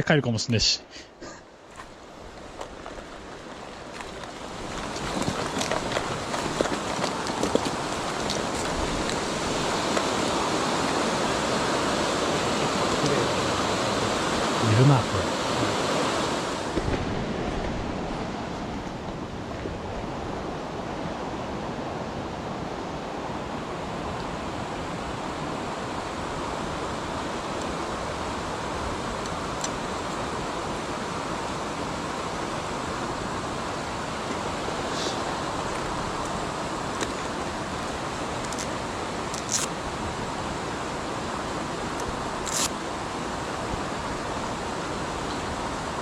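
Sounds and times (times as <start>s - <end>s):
mountain stream flowing: 0.1s - 46.0s.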